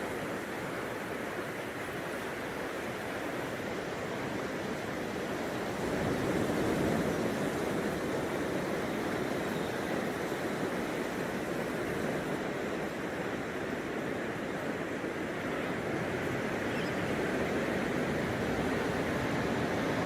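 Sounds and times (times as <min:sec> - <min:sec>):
waves breaking on a beach: 0:00.0 - 0:20.0.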